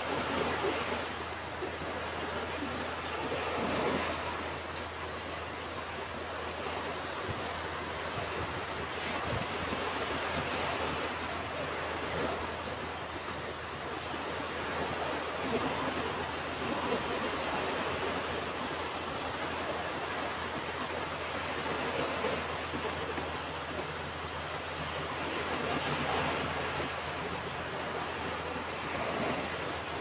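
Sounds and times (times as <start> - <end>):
ocean surf washing onto beach: 0.0 - 30.0.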